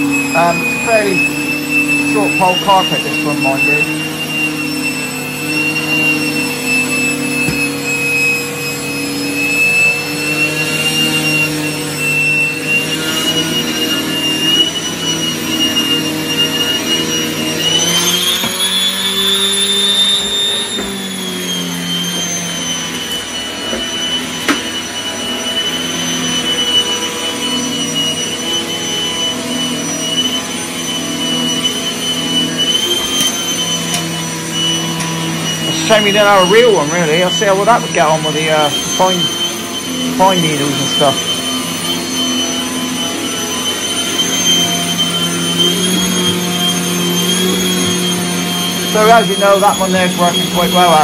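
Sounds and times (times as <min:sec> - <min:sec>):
vacuum cleaner whining hum: 0:00.0 - 0:51.0.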